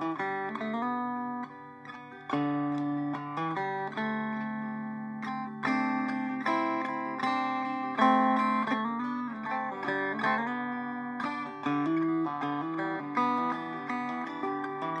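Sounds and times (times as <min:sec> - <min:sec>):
banjo plucked notes and chords: 0:00.0 - 0:15.0.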